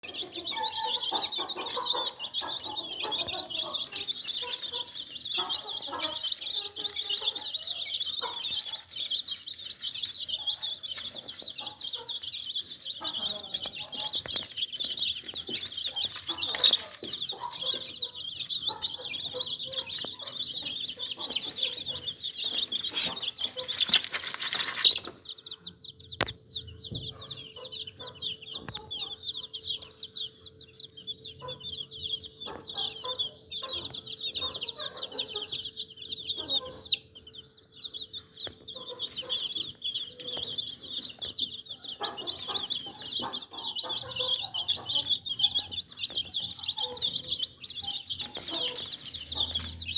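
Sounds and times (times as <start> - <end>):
baby chicks peeping: 0.0 - 49.9.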